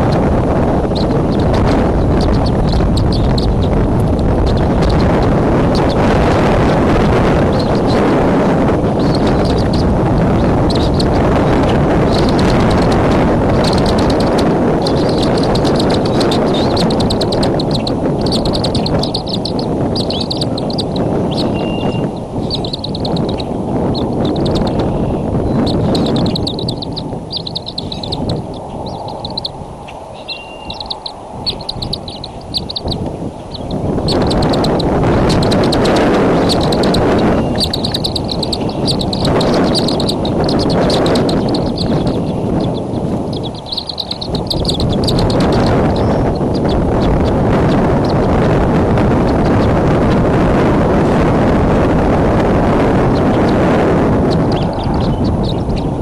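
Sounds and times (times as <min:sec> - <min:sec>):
birds chirping: 0:00.0 - 0:51.3, 0:51.9 - 0:56.0
wind rumble on microphone: 0:00.0 - 0:56.0.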